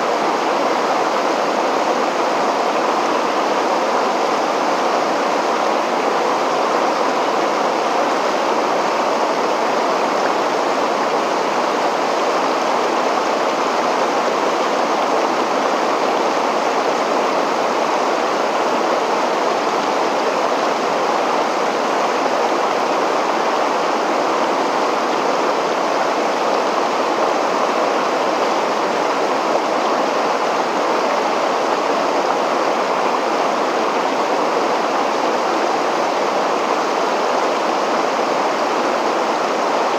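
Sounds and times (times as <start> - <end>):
river water rushing over a weir: 0.0 - 39.9.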